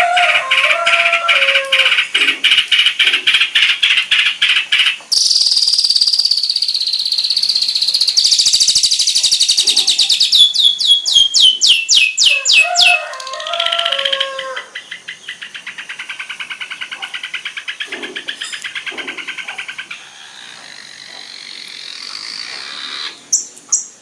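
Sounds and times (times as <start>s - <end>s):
shrike singing varied song: 0.0s - 24.0s.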